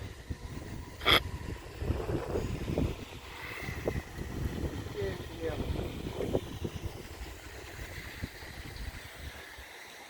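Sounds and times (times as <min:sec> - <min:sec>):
wind rumbling on microphone: 0:00.0 - 0:09.6.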